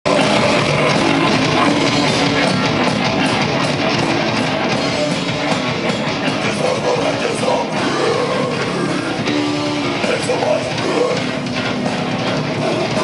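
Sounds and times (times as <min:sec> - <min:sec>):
drum kit: 0:00.1 - 0:13.0
electric guitars: 0:00.1 - 0:13.0.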